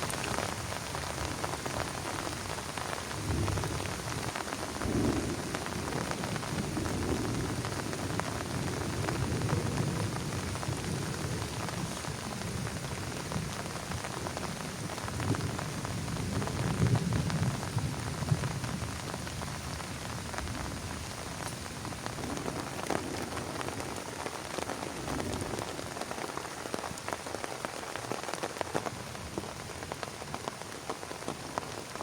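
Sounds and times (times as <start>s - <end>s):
heavy rain on plastic tarp: 0.0s - 32.0s.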